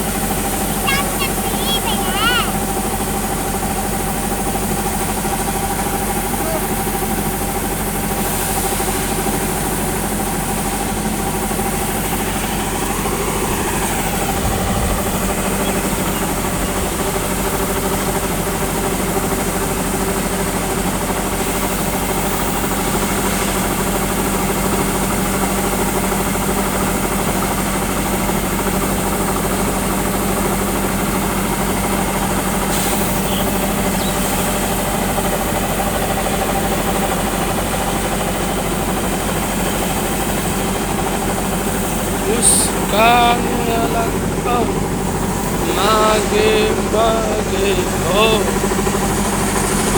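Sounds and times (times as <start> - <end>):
diesel engine hum: 0.0 - 49.9.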